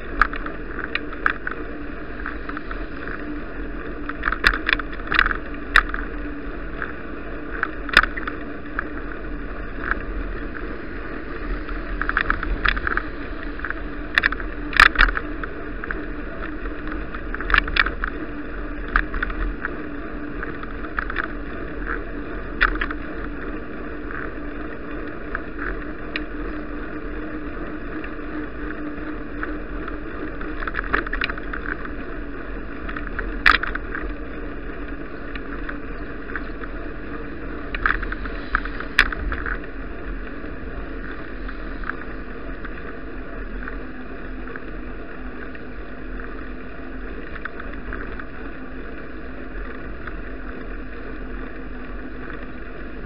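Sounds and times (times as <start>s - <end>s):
bicycle riding rumble and hiss: 0.0s - 53.0s
bike clicks and rattles over bumps: 0.0s - 53.0s.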